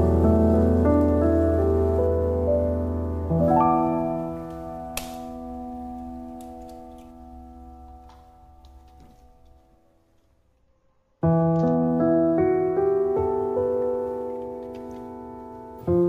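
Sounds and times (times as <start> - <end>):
piano chord: 0.0 - 10.0, 11.2 - 16.0.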